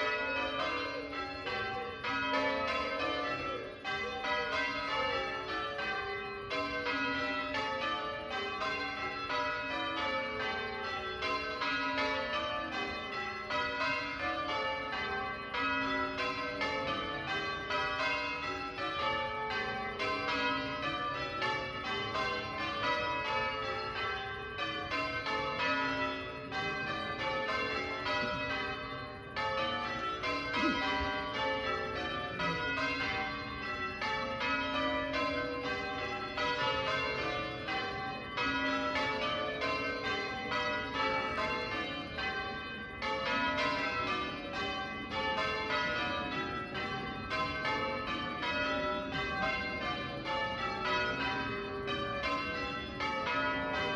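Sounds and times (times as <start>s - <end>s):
church bells change-ringing: 0.0s - 53.9s.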